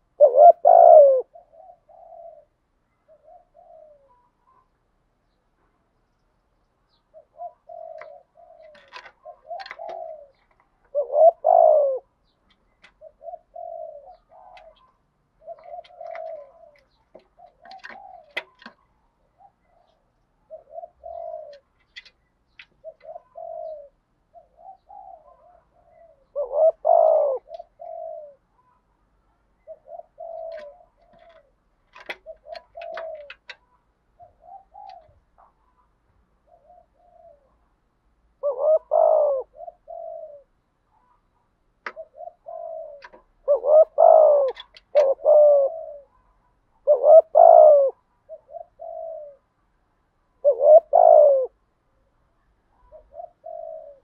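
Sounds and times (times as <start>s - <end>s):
dove cooing: 0.0s - 4.8s, 6.9s - 49.6s, 50.4s - 51.7s, 52.4s - 54.0s.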